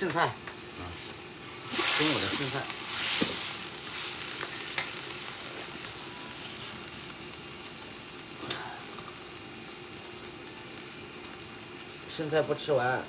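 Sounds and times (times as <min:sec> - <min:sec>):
food sizzling in a hot pan: 0:00.0 - 0:13.0.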